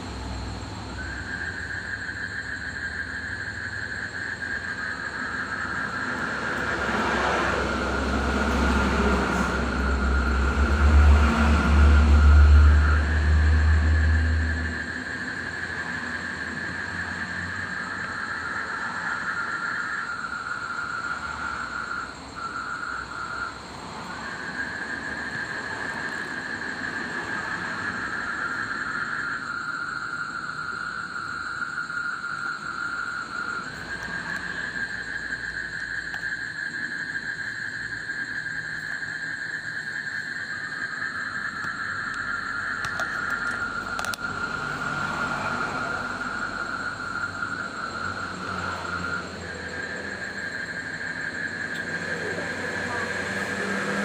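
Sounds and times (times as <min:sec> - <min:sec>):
frogs trilling: 0:00.0 - 0:54.0.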